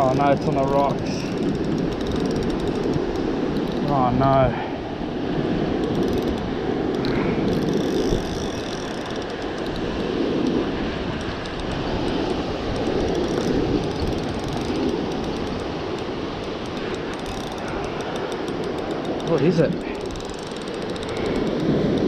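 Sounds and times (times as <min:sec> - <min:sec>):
fishing reel ticking: 0:00.0 - 0:04.3, 0:05.7 - 0:22.0
surf washing over rocks: 0:00.0 - 0:22.0.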